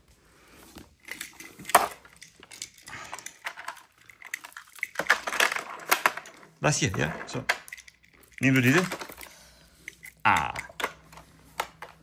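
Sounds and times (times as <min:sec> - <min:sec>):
plastic toys clicking and rattling: 0:00.9 - 0:12.0.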